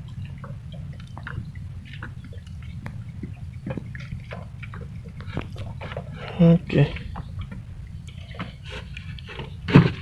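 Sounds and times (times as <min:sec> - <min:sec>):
steady low rumble: 0:00.0 - 0:10.0
water lapping against boat: 0:00.0 - 0:10.0.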